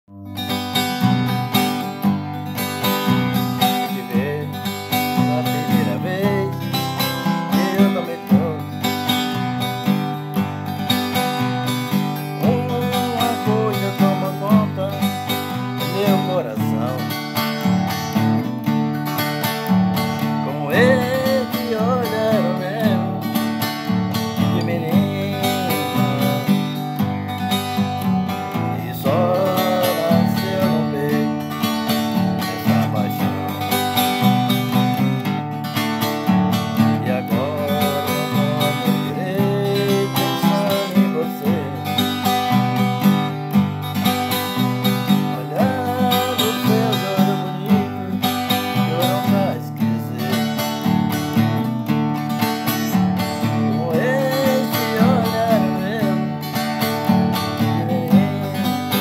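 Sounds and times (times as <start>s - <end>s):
acoustic guitar strumming: 0.1s - 59.0s
man singing: 2.5s - 10.2s, 10.8s - 18.2s, 20.0s - 35.2s, 36.5s - 51.7s, 52.5s - 59.0s.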